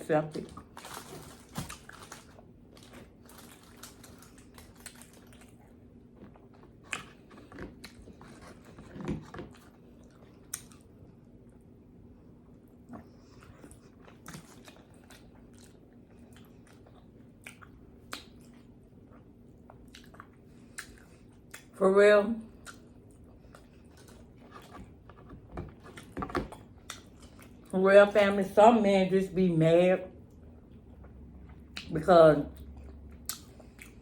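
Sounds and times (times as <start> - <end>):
chewing pizza: 0.3 - 21.8, 22.4 - 27.8, 30.2 - 34.0.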